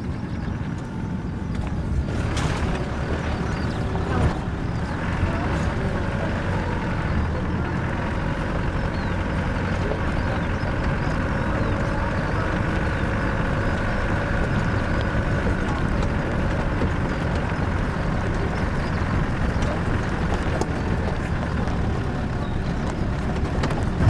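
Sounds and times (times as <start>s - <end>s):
low engine and road rumble: 0.0s - 24.0s.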